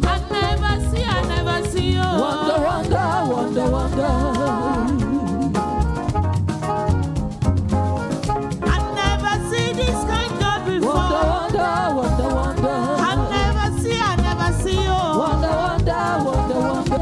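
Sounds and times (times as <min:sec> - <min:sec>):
people singing: 0:00.0 - 0:05.8, 0:08.7 - 0:17.0
gospel band playing: 0:00.0 - 0:17.0.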